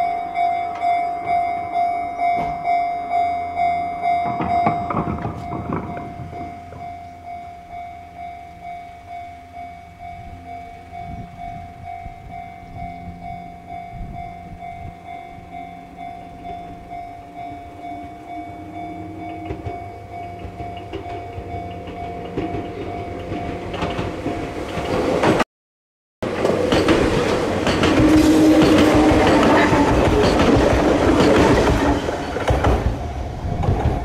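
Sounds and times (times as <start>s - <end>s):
level crossing bell clanging: 0.0s - 25.0s, 26.3s - 32.5s
train motors and wheels: 0.0s - 25.4s, 26.2s - 34.0s.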